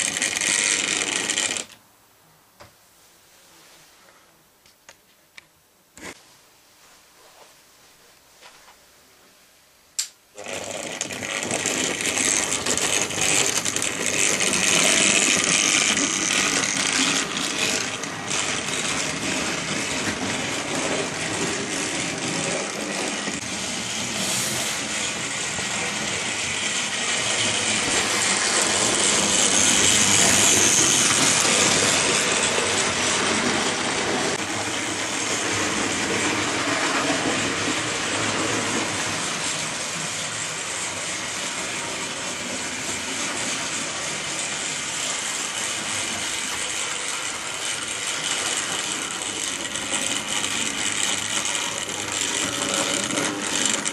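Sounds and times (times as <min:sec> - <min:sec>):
model train rattling on track: 0:00.0 - 0:01.8, 0:10.4 - 0:53.9.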